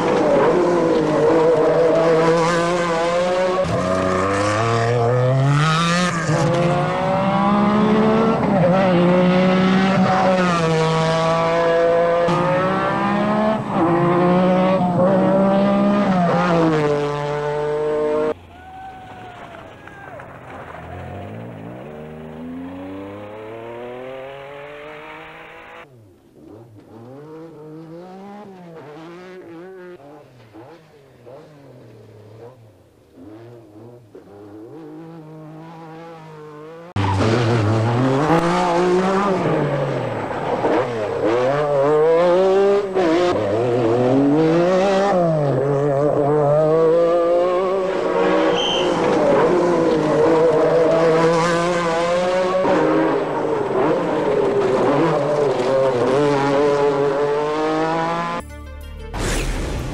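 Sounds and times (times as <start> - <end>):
rally car engine at full throttle: 0.0 - 18.4, 19.4 - 58.4.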